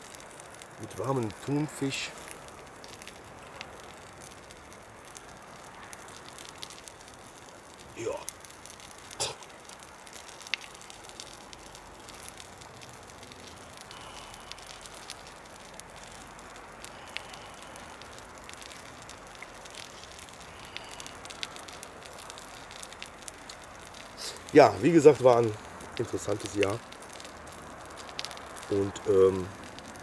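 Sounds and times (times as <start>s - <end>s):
faint steady hiss: 0.0s - 30.0s
fire crackling: 0.0s - 30.0s.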